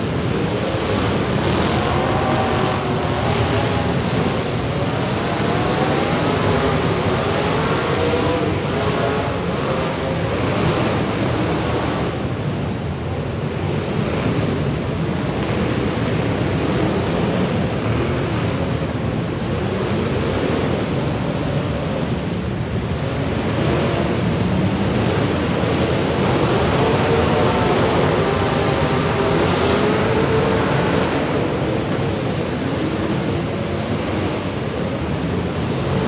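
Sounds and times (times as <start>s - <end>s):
engine revving: 0.0s - 12.6s, 13.7s - 36.0s
roar of car engines: 0.0s - 36.0s.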